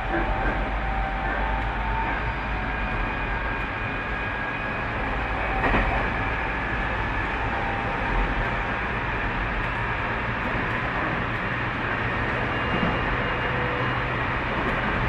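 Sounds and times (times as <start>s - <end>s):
rail and wheel rumble: 0.0s - 15.0s
train rushing: 0.0s - 15.0s.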